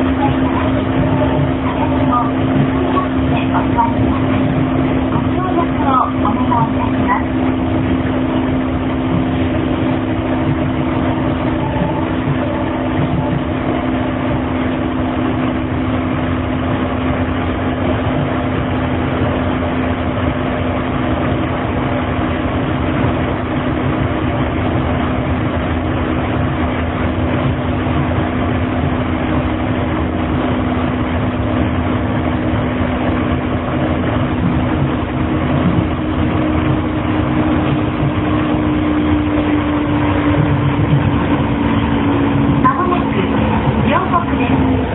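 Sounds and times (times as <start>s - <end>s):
rubber tyre road noise: 0.0s - 44.9s
train motor hum: 0.0s - 44.9s.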